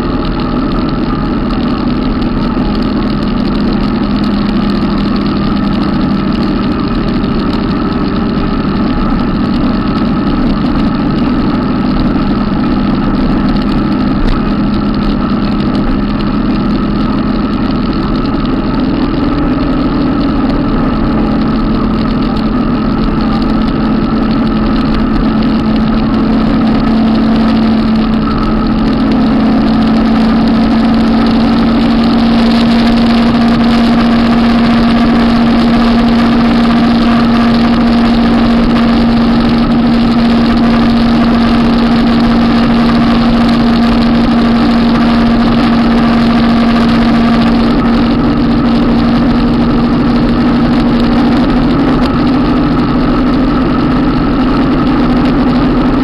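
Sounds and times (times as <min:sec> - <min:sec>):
motorcycle engines cruising: 0:00.0 - 0:56.0
wind and road rush: 0:00.0 - 0:56.0.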